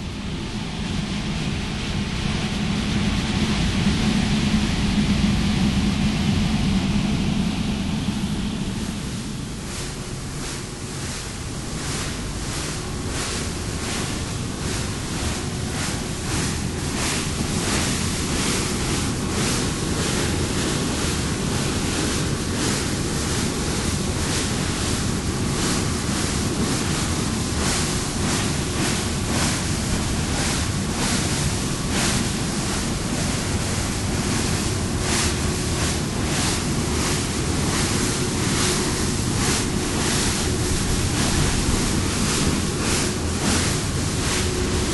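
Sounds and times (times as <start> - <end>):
faint ship machinery hum: 0.0 - 44.9
wind on microphone: 0.0 - 44.9
water rushing along ship hull: 8.9 - 44.9.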